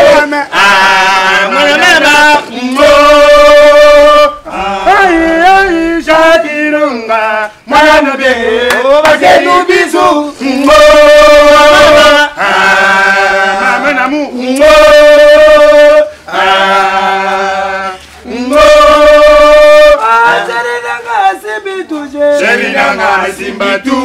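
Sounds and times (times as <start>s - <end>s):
group of voices chanting: 0.0s - 6.2s, 7.7s - 21.4s, 22.3s - 24.0s.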